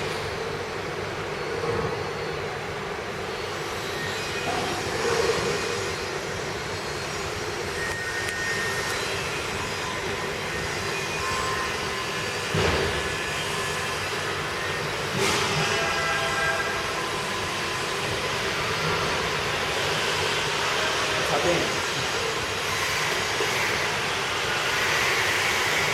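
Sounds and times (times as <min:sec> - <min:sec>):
grinding machine whirring: 0:00.0 - 0:25.9.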